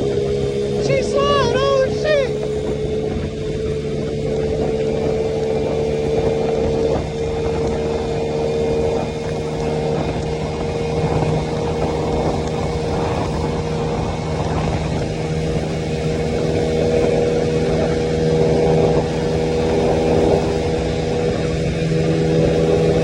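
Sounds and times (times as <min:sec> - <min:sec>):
scooter engine cruising: 0:00.0 - 0:23.0.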